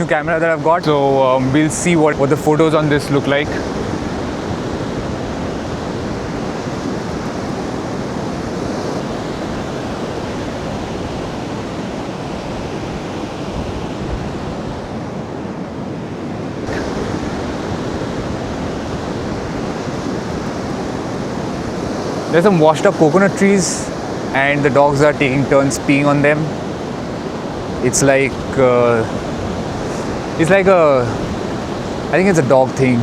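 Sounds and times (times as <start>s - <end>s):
sea surf washing onto beach: 0.0s - 33.0s
wind on microphone: 0.0s - 33.0s.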